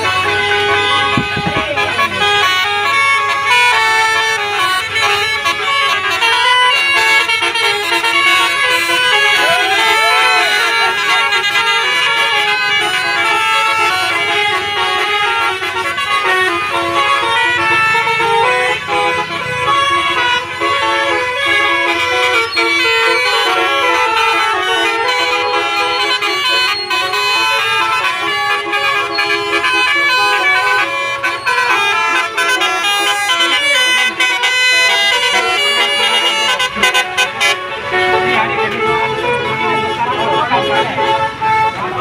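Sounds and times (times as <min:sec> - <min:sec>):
multi-tone air horn melody: 0:00.0 - 0:42.0.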